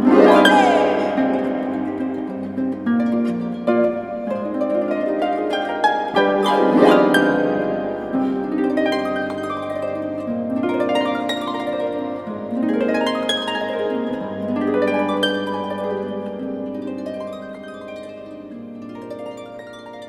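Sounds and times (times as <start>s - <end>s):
harp playing: 0.0s - 20.0s.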